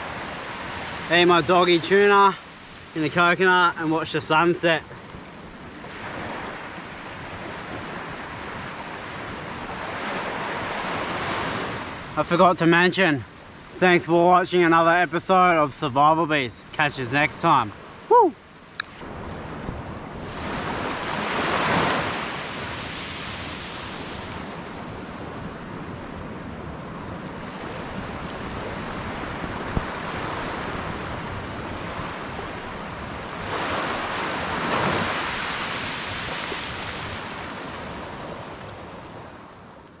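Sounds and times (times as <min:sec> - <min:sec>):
small waves washing onto beach: 0:00.0 - 0:40.0.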